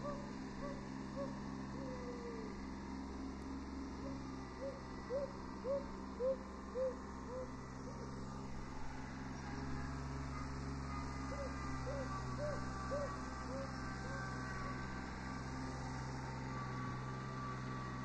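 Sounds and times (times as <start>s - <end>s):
distant tractor diesel engine: 0.0s - 18.0s.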